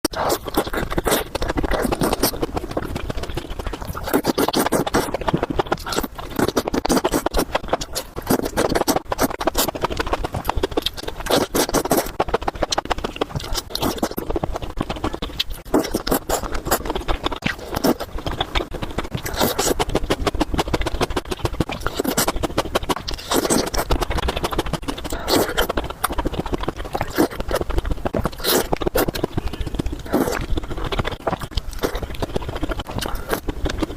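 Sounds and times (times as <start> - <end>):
chewing and slurping noodles: 0.0 - 33.9.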